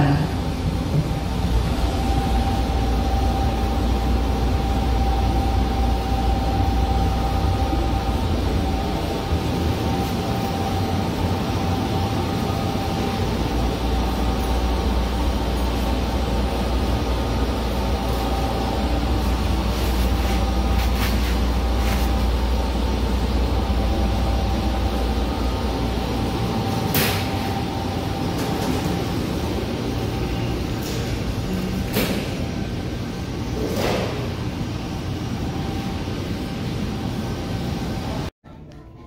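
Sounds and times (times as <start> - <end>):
tram rumbling with motor whine: 0.0 - 38.3.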